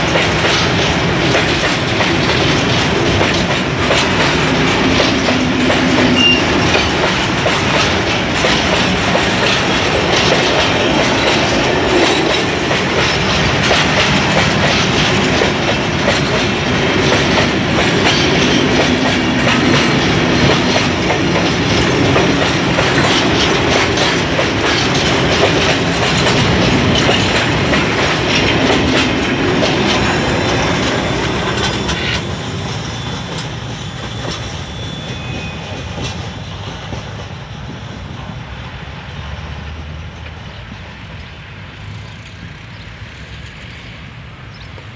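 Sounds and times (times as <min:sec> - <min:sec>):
clickety-clack at rail joints: 0:00.0 - 0:44.9
train wheels rumbling on rail: 0:00.0 - 0:44.9.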